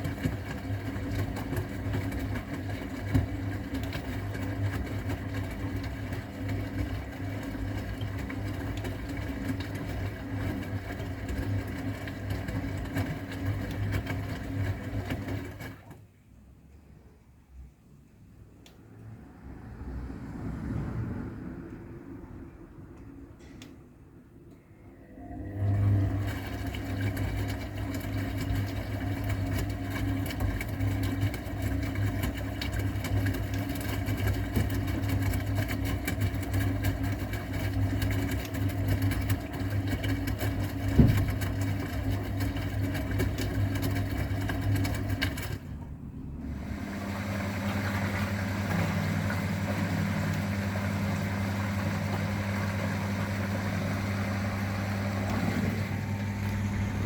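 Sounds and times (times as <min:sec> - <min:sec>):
washing machine motor humming: 0:00.0 - 0:16.4, 0:18.6 - 0:57.0.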